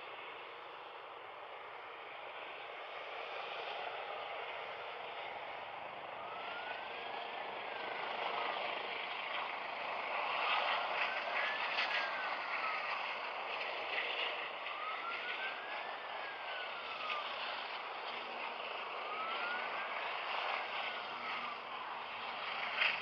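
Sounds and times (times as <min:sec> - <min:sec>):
helicopter turbine and rotor noise: 0:00.0 - 0:23.0.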